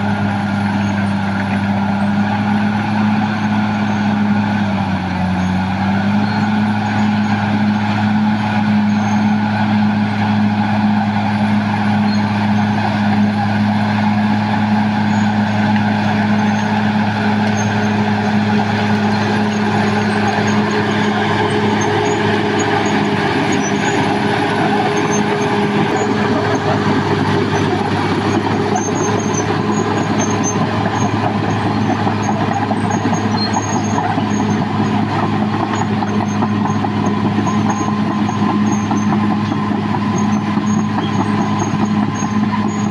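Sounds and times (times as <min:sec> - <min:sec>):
bulldozer diesel engine droning: 0:00.0 - 0:42.9.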